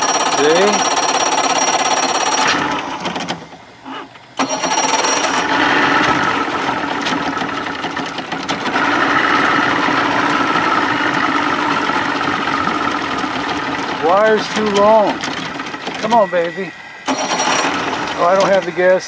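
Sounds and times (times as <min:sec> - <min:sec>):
electric starter cranking engine: 0:00.0 - 0:03.6, 0:04.4 - 0:19.0.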